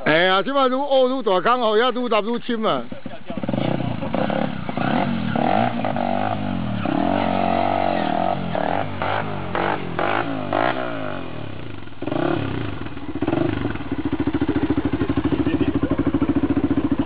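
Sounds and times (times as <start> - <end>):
motorcycle engine revving: 2.8 - 17.0.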